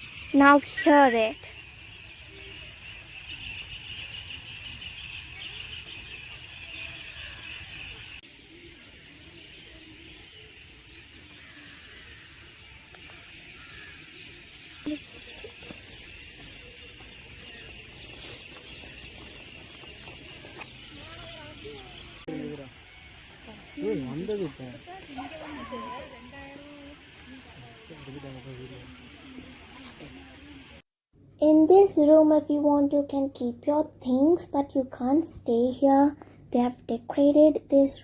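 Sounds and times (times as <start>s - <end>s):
birds calling and chattering: 0.0s - 30.8s.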